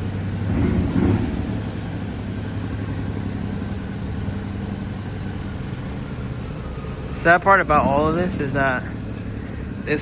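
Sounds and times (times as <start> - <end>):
small turbo engine idling: 0.0 - 10.0.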